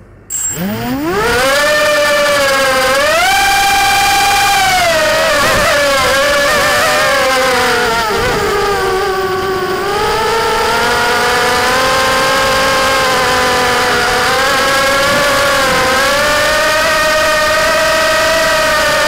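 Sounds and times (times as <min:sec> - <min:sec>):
quadcopter motors buzzing whine: 0:00.3 - 0:19.0.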